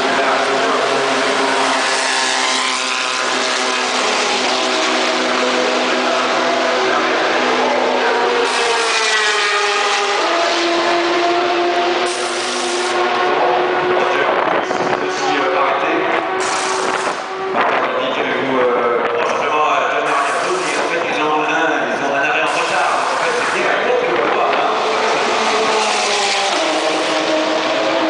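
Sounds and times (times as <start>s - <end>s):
race car engines running: 0.0s - 28.0s
race car passing: 0.0s - 28.0s.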